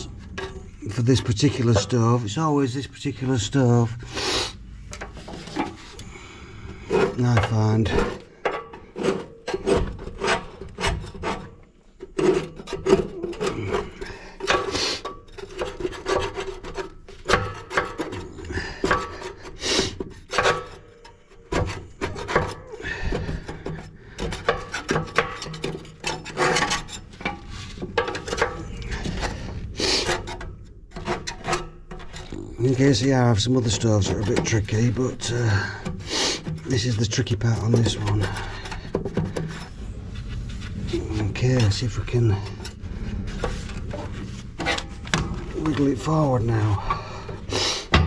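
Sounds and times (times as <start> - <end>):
scraping against brick: 0.0 - 48.0.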